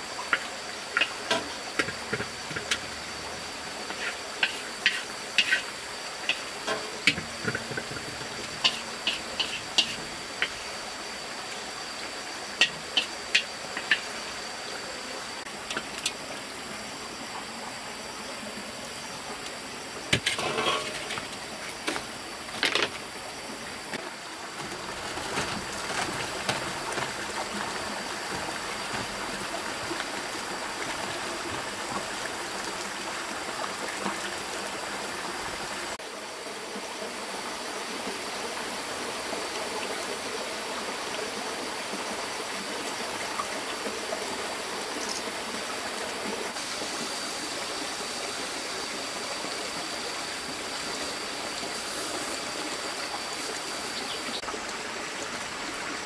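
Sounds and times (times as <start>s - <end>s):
stream water rushing: 0.0s - 17.2s, 18.9s - 56.0s.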